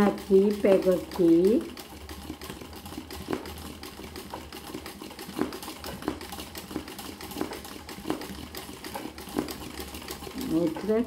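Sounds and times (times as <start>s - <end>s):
sewing machine motor hum: 0.0s - 11.0s.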